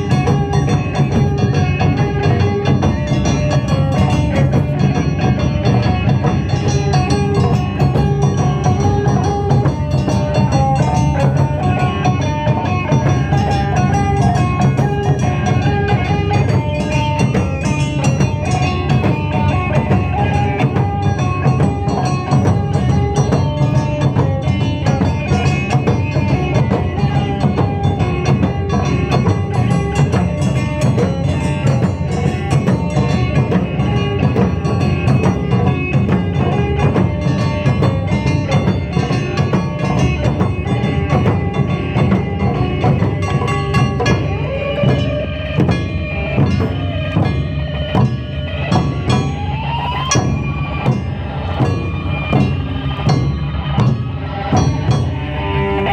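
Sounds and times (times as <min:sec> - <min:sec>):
held melodic notes: 0:00.0 - 0:55.9
taiko drum ensemble drumming: 0:00.0 - 0:55.9.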